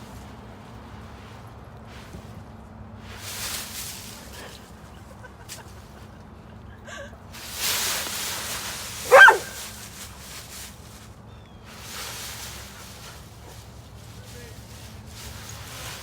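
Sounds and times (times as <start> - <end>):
dry leaves rustling: 0.0 - 6.0, 7.3 - 16.0.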